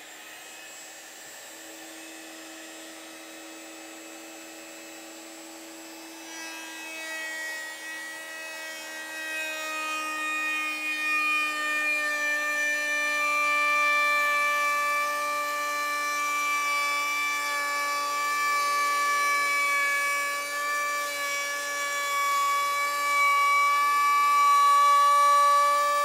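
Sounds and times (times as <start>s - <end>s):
electric router whining: 0.0s - 26.0s.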